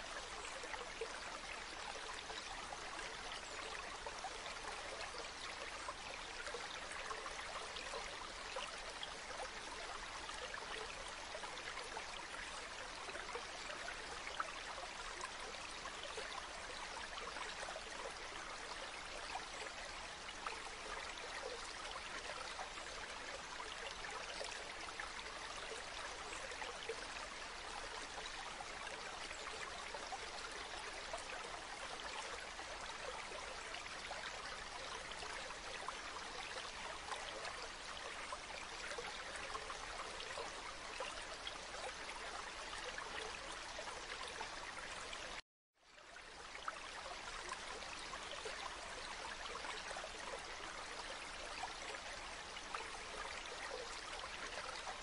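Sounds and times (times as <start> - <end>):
stream water babbling: 0.0 - 55.0.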